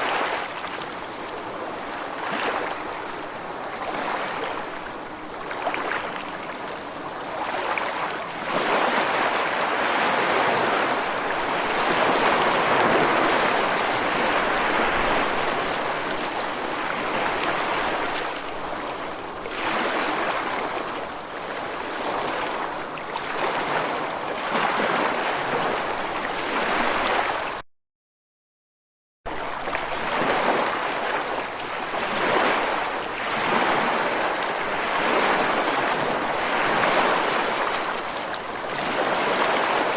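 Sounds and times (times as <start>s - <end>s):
ocean waves breaking on shore: 0.0s - 27.6s, 29.3s - 39.9s.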